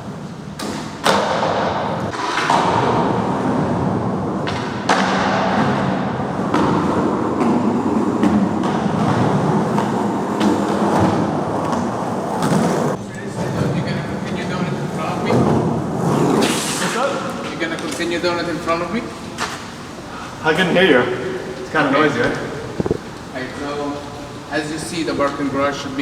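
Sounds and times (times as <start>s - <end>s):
skateboard wheels rumbling: 0.0s - 26.0s
skateboard clacks: 0.1s - 26.0s.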